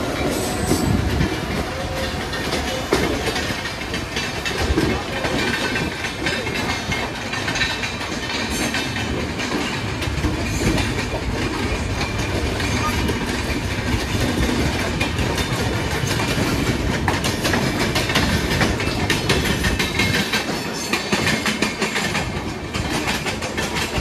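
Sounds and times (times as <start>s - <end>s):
train wheels clattering over joints: 0.0s - 24.0s.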